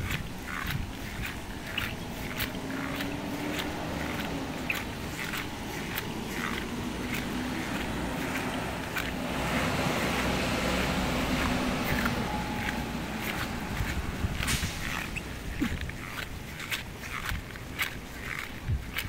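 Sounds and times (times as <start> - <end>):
faint engine hum: 0.0 - 19.0
footsteps on wet pavement: 0.0 - 19.0
traffic: 0.0 - 19.0
tyres passing on a wet road: 0.0 - 19.0.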